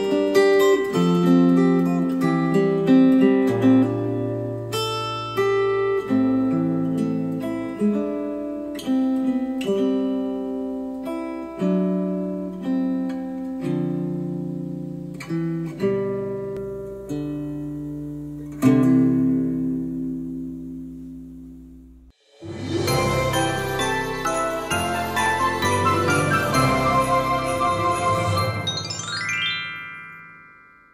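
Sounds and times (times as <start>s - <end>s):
acoustic guitar picked notes: 0.0s - 30.9s.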